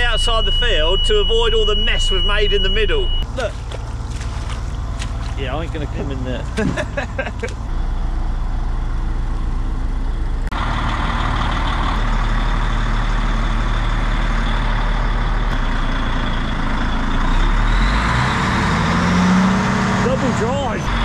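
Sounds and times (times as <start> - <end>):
lorry diesel engine running: 0.0 - 21.0.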